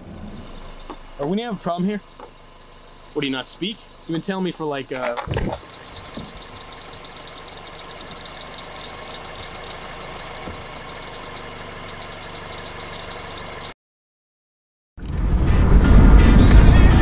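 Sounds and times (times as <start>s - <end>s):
car engine idling: 0.0s - 13.7s.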